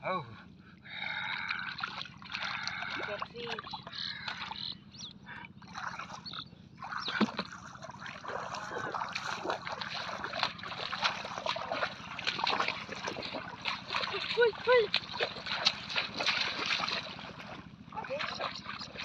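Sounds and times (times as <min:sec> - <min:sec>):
feet wading through muddy water: 0:00.6 - 0:19.0
water dripping and trickling: 0:01.3 - 0:04.6, 0:06.9 - 0:19.0.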